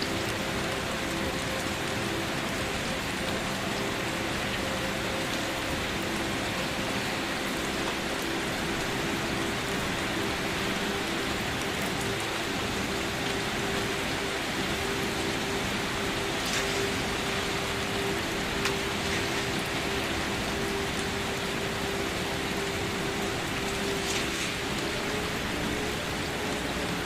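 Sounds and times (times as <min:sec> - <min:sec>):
gentle rain falling: 0:00.0 - 0:27.0.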